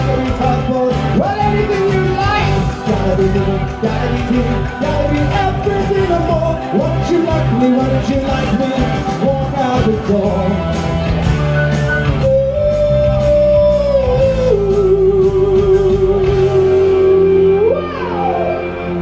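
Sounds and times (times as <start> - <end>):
person singing pop-rock: 0.0 - 18.8
loud instrumental backing: 0.0 - 19.0.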